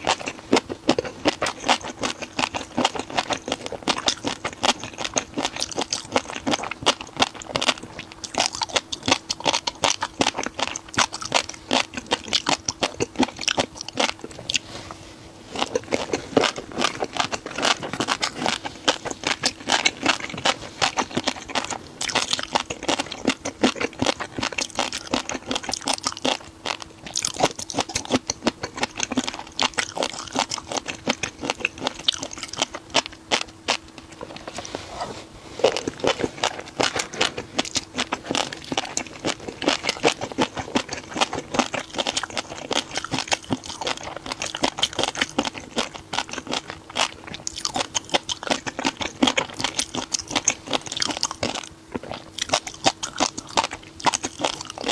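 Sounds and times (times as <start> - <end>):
faint steady hum: 0.0 - 54.9
person chewing crunchy food: 0.0 - 54.9.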